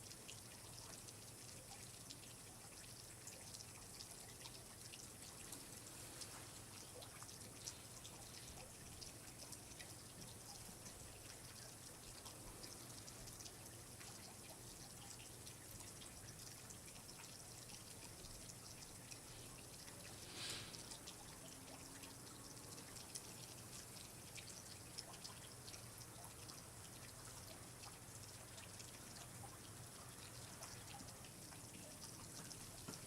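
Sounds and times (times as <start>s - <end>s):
low steady hiss: 0.0s - 33.0s
water dripping: 0.0s - 33.0s.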